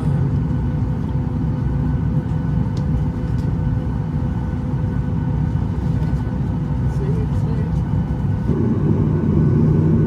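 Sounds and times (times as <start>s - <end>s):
airplane cabin hum: 0.0s - 10.0s.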